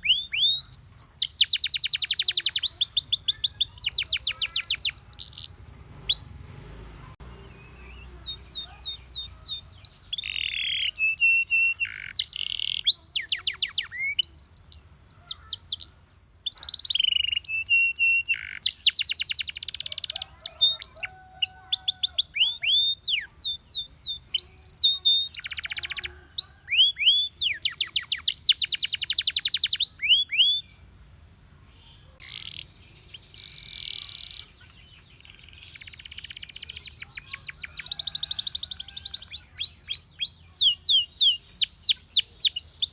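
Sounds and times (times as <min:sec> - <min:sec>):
canary singing: 0:00.0 - 0:31.0, 0:31.8 - 0:42.9.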